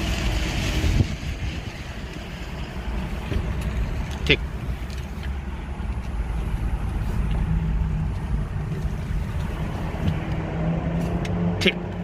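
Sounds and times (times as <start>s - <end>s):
car rolling with low rumble: 0.0s - 12.0s.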